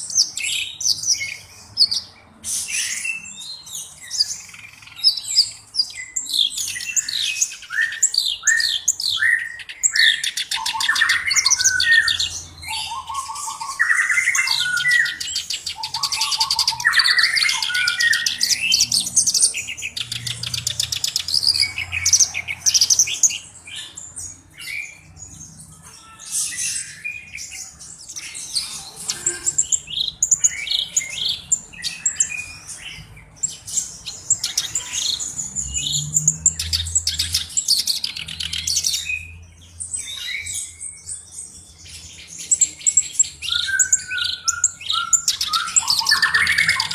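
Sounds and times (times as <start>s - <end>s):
reed warbler singing: 0.0s - 25.8s, 26.7s - 46.9s.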